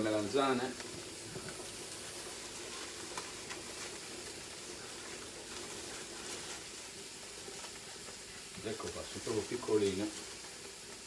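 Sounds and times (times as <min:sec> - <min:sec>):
faint crackles: 0:00.0 - 0:11.0
food sizzling in a pan: 0:00.0 - 0:11.0.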